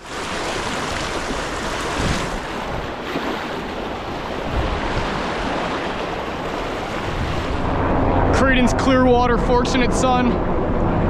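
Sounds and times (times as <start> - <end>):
stream water rushing: 0.0 - 10.2
wind buffeting microphone: 0.0 - 11.0.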